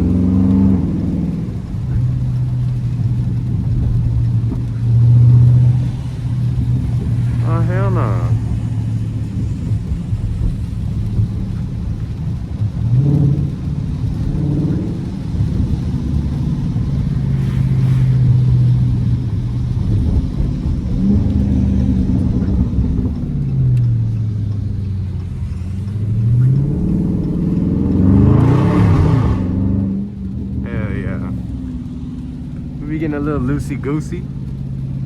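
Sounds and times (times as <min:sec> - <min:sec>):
car engine revving while driving: 0:00.0 - 0:35.0.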